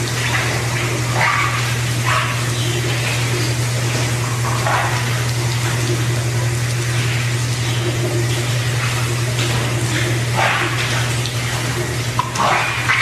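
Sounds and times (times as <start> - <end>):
constant low hum: 0.0 - 13.0
running water: 0.0 - 13.0.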